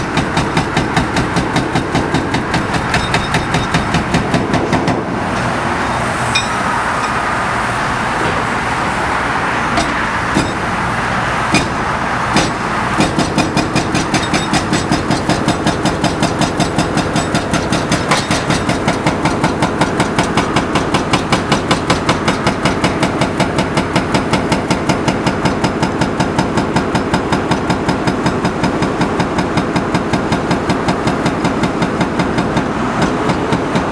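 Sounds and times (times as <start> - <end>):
hydraulic hammer pounding: 0.0 - 33.9.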